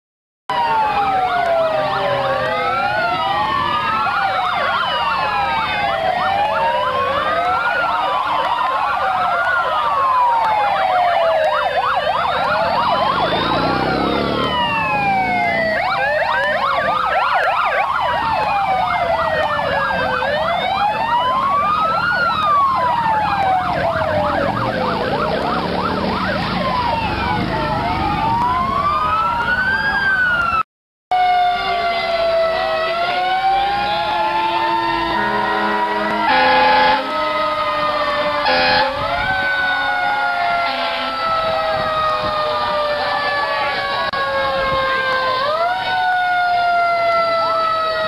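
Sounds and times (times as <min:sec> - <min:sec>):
yelping siren warble: 0:00.5 - 0:30.6, 0:31.2 - 0:48.0
emergency sirens wailing: 0:00.5 - 0:48.0.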